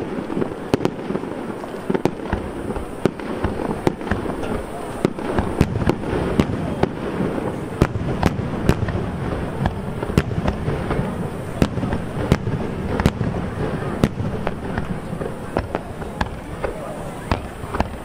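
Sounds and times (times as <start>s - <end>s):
firework shells bursting: 0.0s - 18.0s
steady background din: 0.0s - 18.0s.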